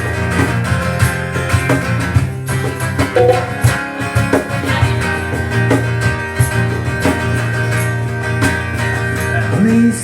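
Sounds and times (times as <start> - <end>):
electric guitar: 0.0 - 10.0
rock band playing: 0.0 - 10.0.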